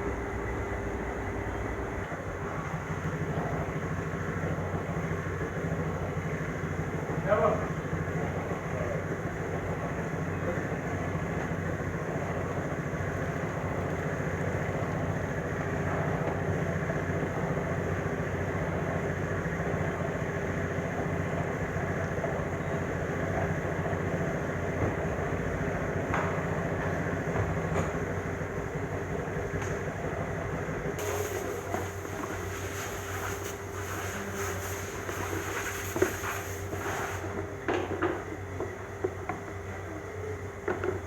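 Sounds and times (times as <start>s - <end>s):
engine running with fast pulse: 0.0s - 37.4s.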